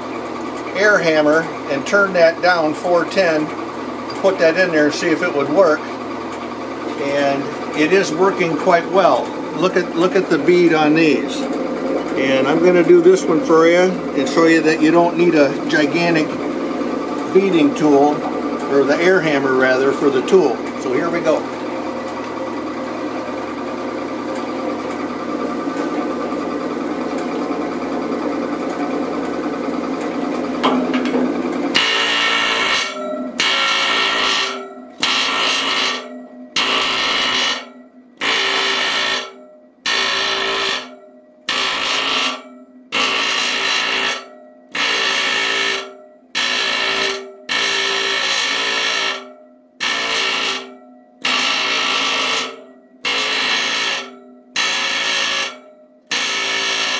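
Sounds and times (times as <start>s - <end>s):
pneumatic air hammer buzzing: 0.0s - 26.2s, 30.5s - 56.9s.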